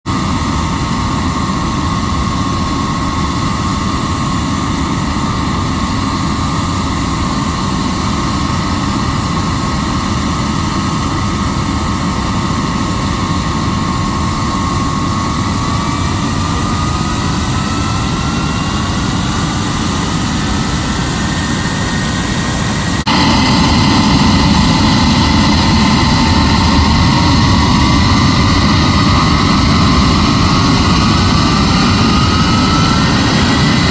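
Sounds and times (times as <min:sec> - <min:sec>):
jet engine roar with whine: 0:00.0 - 0:33.9.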